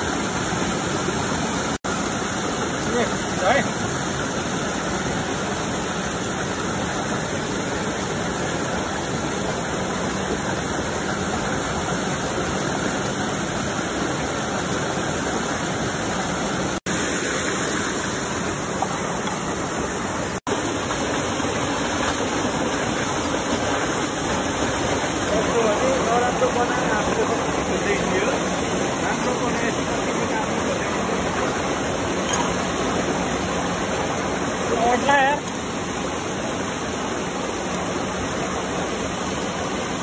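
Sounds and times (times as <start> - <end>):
flowing water rushing: 0.0 - 40.0.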